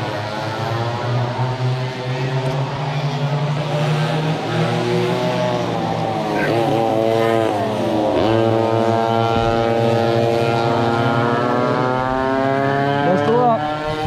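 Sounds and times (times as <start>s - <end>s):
go-kart engine accelerating: 0.0s - 14.0s
low engine drone: 0.0s - 14.0s.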